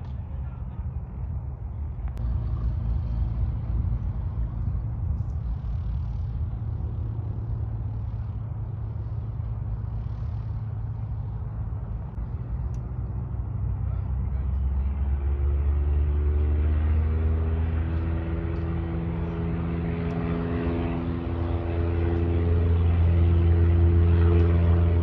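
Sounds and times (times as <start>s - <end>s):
propeller aircraft engine running: 0.0s - 25.0s.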